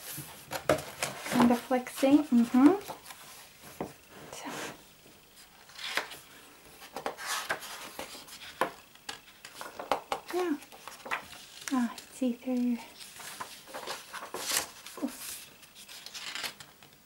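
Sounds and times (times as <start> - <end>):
book pages rustling: 0.0 - 4.8, 5.4 - 16.9.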